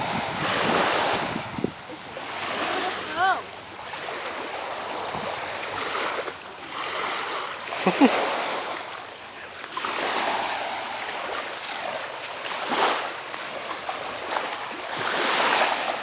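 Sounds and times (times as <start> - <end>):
small surf washing on sand: 0.0 - 16.0.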